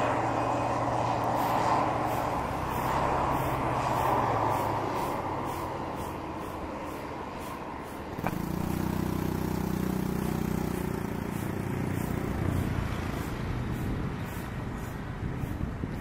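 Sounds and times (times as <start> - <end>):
turboprop aircraft droning: 0.0 - 16.0.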